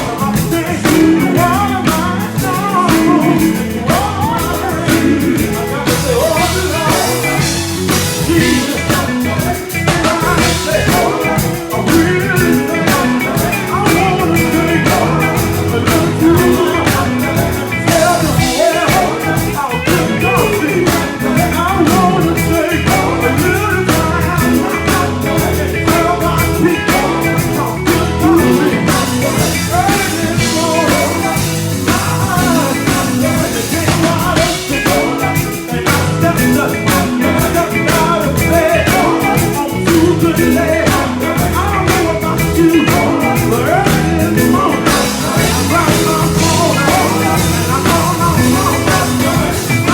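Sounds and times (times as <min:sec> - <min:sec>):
drum kit beat: 0:00.0 - 0:49.9
electric guitar: 0:00.0 - 0:49.9
person singing lead vocal: 0:00.0 - 0:49.9.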